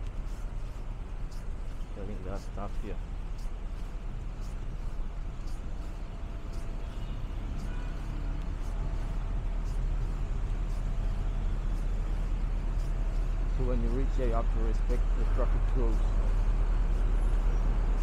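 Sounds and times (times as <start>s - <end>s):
traffic engines idling: 0.0s - 18.0s.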